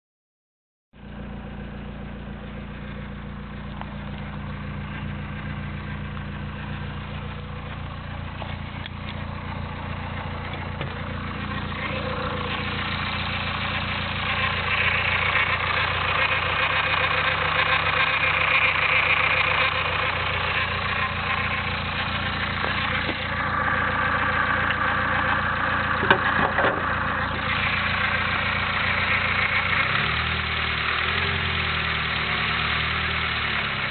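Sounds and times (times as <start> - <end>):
car engine idling: 1.0 - 33.9
grinding noise from engine: 1.3 - 33.9.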